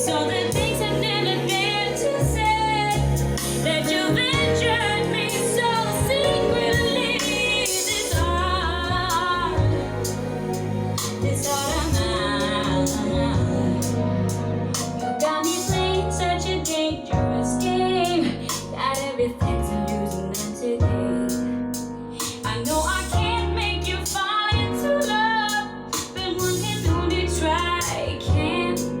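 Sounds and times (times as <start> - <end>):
pop ballad through speakers: 0.0 - 29.0.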